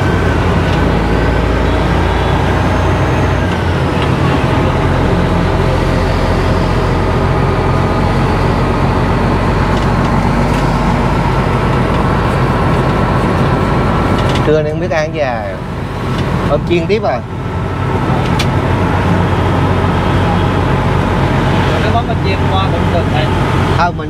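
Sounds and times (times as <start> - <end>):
road noise: 0.0 - 24.0
truck engine drone: 0.0 - 24.0.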